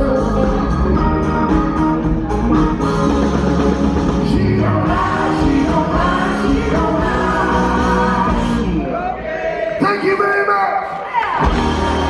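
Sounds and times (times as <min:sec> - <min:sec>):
live band playing: 0:00.0 - 0:09.1, 0:11.3 - 0:12.0.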